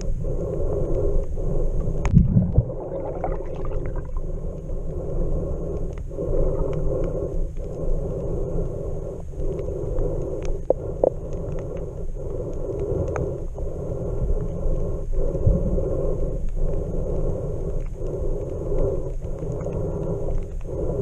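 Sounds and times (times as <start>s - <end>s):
muffled underwater rumble: 0.0s - 21.0s
faint clicks: 3.9s - 21.0s.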